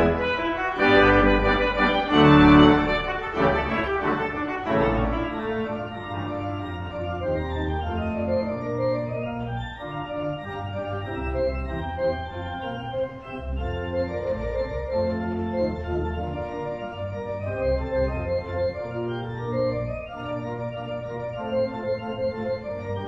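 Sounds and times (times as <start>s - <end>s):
pipe organ chords: 0.0s - 23.0s.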